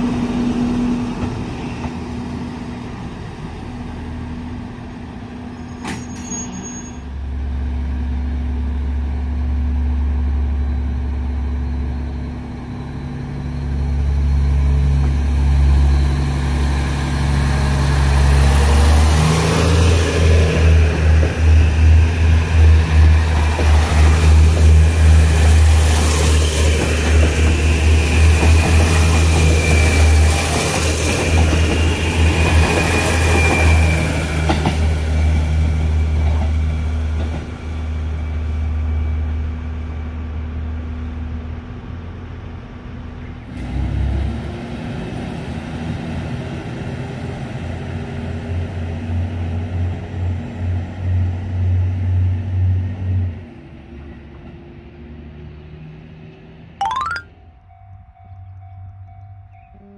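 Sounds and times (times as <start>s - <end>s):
train passing with engine hum: 0.0s - 6.3s, 6.9s - 56.8s
high whine of train: 0.0s - 56.8s, 57.6s - 59.9s.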